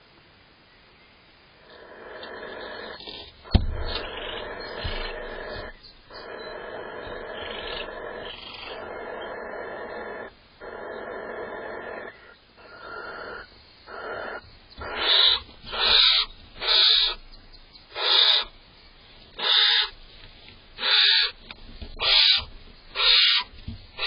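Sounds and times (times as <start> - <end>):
barn owl hissing screeches: 1.6 - 17.2, 17.9 - 18.5, 19.3 - 20.0, 20.8 - 21.4, 22.0 - 24.0
barn owl wheezing call: 1.6 - 17.3, 17.9 - 18.6, 19.3 - 20.0, 20.8 - 21.4, 22.0 - 24.0.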